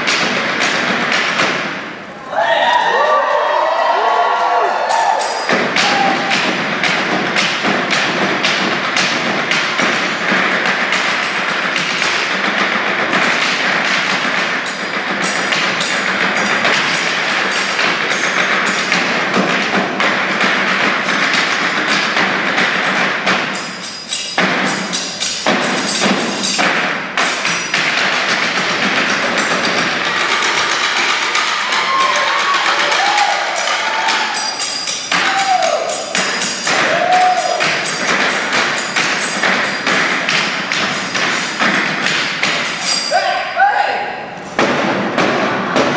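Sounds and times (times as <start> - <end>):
knives and sticks drumming on table: 0.0 - 1.8, 4.9 - 43.2.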